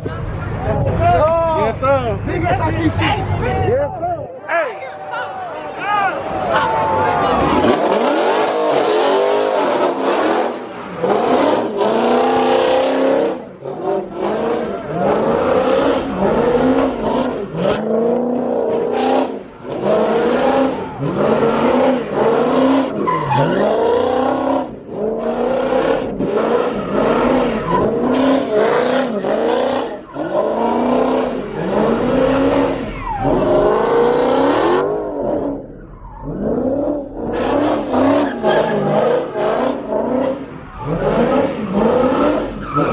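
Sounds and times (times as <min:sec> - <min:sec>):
tyres skidding: 0:00.0 - 0:42.9
car engine revving hard: 0:07.3 - 0:42.9.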